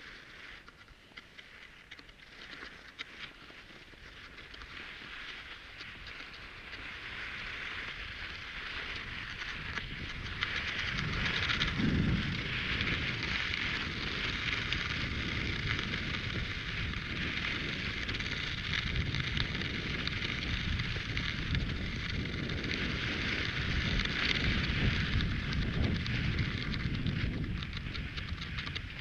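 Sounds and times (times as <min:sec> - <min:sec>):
skis sliding on snow: 0:00.0 - 0:29.0
wind on microphone: 0:05.4 - 0:29.0.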